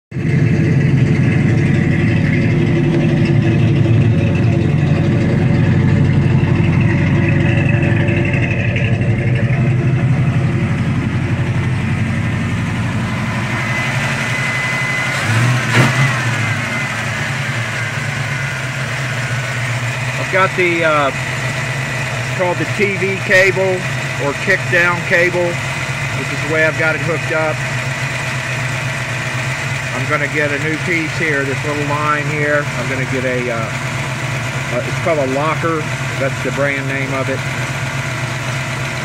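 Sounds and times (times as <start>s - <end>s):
car engine idling: 0.1s - 39.0s.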